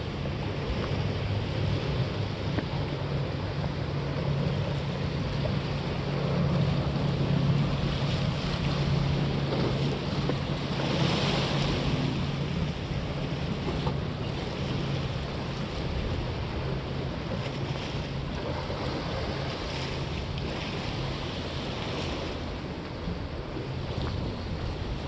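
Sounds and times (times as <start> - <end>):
sea waves washing: 0.0 - 25.0
wind buffeting microphone: 0.0 - 25.0.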